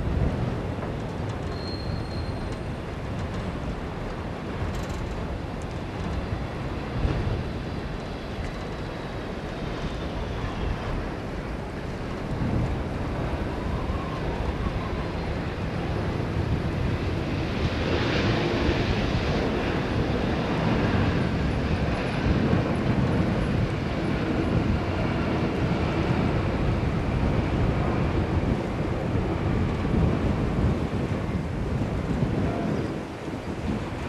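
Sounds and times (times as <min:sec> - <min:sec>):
wind rumble on microphone: 0:00.0 - 0:34.0
jet engine roar: 0:05.3 - 0:34.0.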